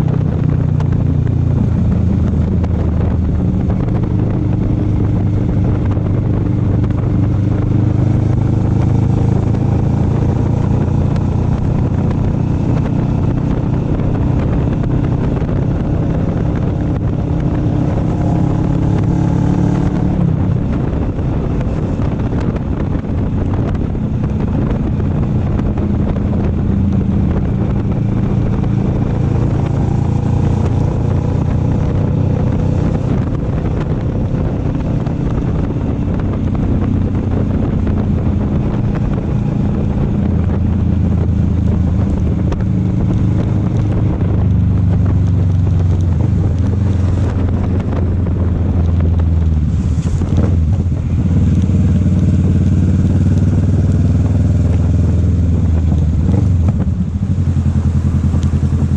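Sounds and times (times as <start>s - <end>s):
motorcycle engine running: 0.0s - 58.9s
wind rushing over microphone: 0.0s - 58.9s.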